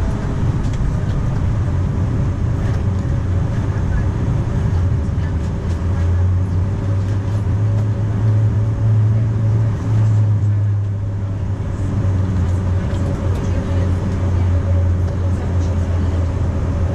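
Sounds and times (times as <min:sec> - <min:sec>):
airliner engines droning: 0:00.0 - 0:16.9
cabin air noise: 0:00.0 - 0:16.9.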